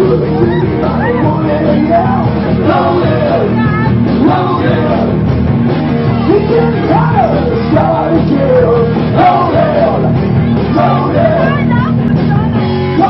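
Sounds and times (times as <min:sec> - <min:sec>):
man singing into a microphone: 0:00.0 - 0:05.2, 0:06.2 - 0:11.7
live rock band playing: 0:00.0 - 0:13.0.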